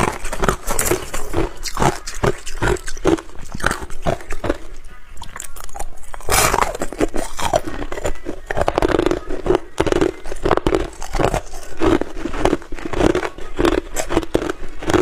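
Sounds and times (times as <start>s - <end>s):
ice crunching between teeth: 0.0s - 15.0s.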